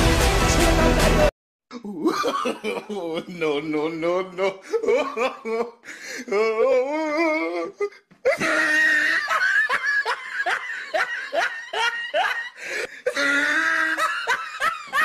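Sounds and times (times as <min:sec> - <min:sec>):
person laughing loudly: 0:01.8 - 0:15.0.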